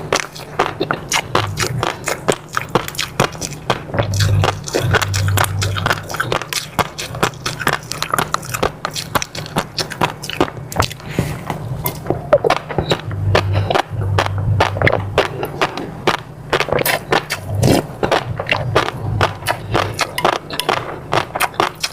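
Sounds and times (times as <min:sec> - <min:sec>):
chewing with wet clicks: 0:00.0 - 0:11.1, 0:11.8 - 0:21.9
low steady hum: 0:00.0 - 0:21.9.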